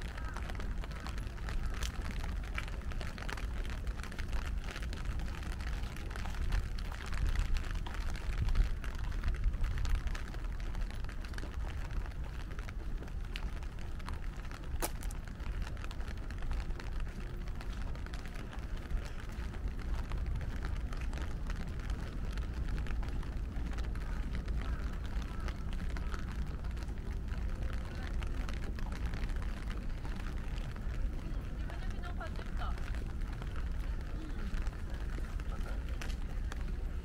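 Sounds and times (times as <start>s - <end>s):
raindrops ticking: 0.0s - 37.0s.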